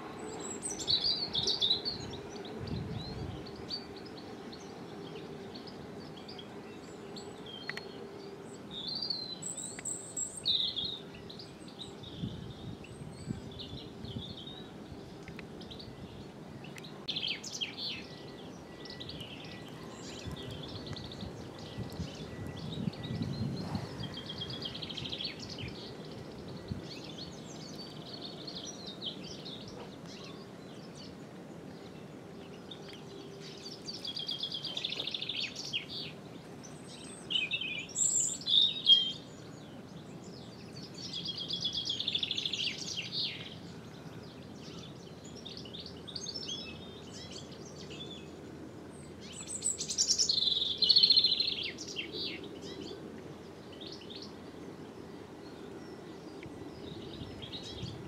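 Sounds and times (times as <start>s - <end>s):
faint background noise: 0.0s - 58.0s
songbird singing: 0.0s - 58.0s.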